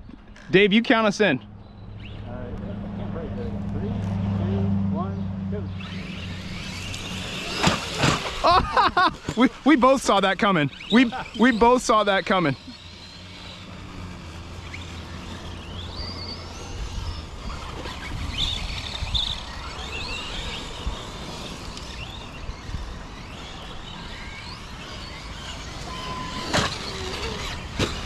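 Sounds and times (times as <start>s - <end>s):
electric motors whining: 0.0s - 28.0s.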